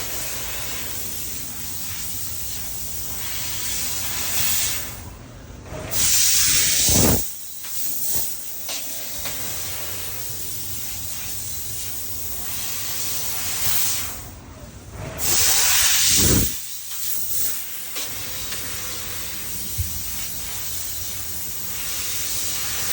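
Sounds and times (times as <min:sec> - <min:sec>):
laser cutter gas hiss: 0:00.0 - 0:05.1, 0:05.9 - 0:14.4, 0:15.2 - 0:22.9.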